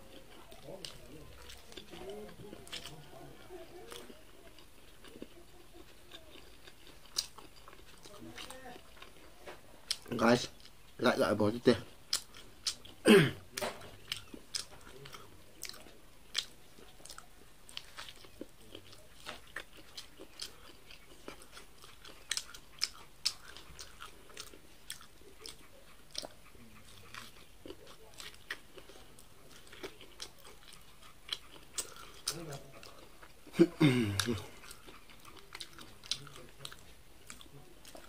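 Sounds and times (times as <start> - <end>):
chewing corn on the cob: 0.0 - 38.0.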